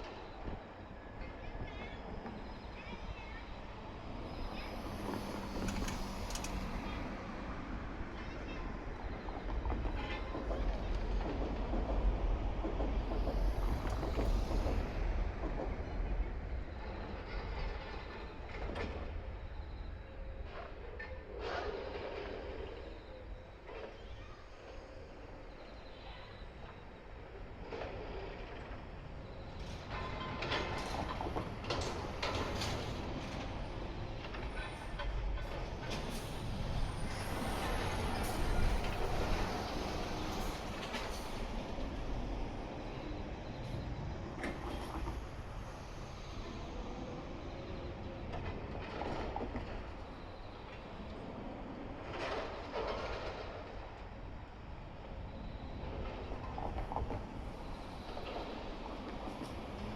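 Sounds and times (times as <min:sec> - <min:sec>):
electric train passing: 0:00.0 - 0:23.7, 0:24.4 - 0:59.9.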